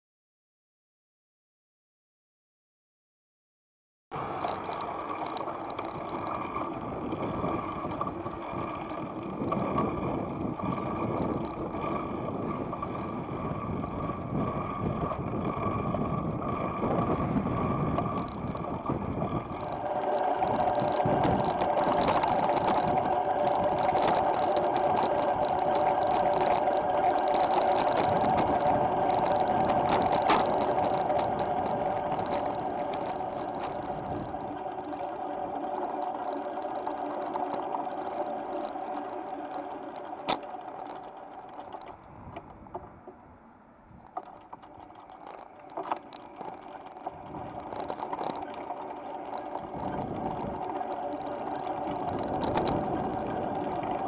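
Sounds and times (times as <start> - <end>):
clicks and rattles: 4.2 - 43.2, 44.0 - 54.0
bicycle tyres humming on asphalt: 4.2 - 54.0.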